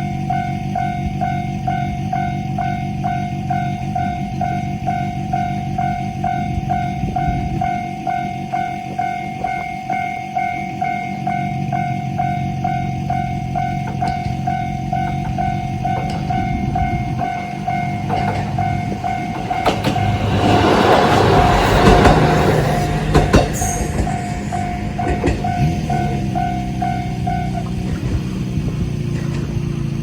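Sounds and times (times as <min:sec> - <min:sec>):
diesel railcar engine droning: 0:00.0 - 0:30.0
level crossing bell ringing: 0:00.2 - 0:28.1
train wheels clacking on rail joints: 0:03.0 - 0:30.0.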